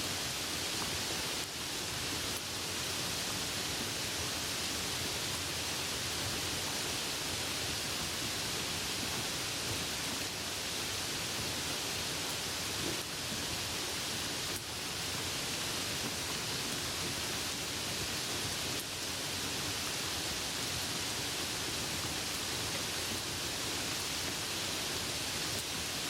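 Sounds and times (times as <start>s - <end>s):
soft rain falling: 0.0s - 26.0s.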